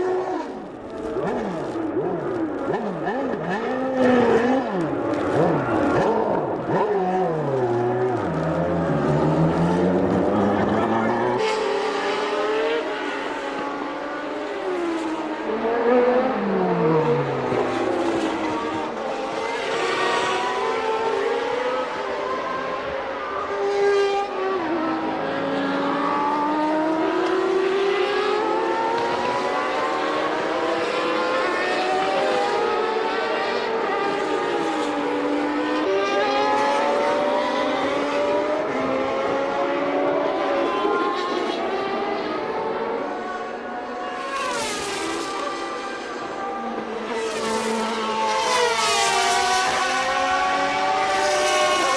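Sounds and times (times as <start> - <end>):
racing car engines revving: 0.0 - 51.9.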